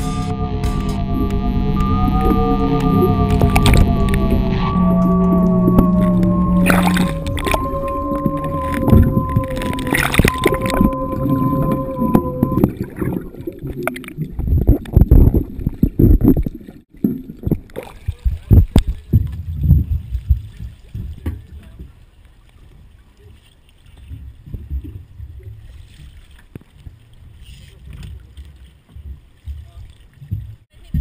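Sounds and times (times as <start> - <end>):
sea water sloshing and splashing: 2.1 - 31.0.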